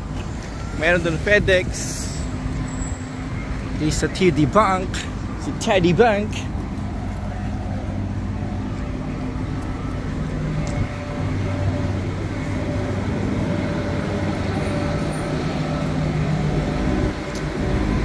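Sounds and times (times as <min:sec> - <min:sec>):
tyre and road noise: 0:00.0 - 0:18.0
vehicle engines humming: 0:00.0 - 0:18.0.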